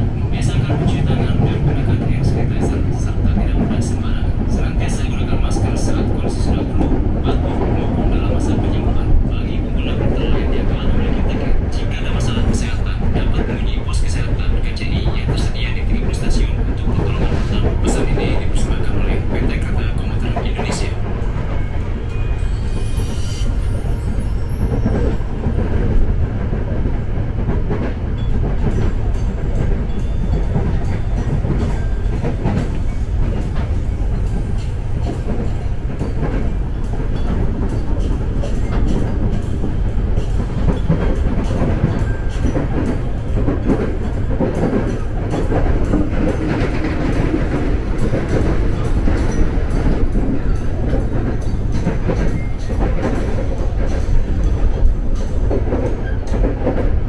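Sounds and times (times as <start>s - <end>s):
electric train rumbling: 0.0s - 57.0s
train wheels clicking over rails: 0.0s - 57.0s.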